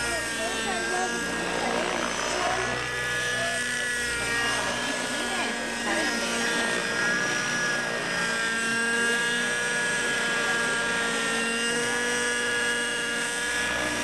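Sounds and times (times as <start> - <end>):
model helicopter engine whine: 0.0 - 14.0.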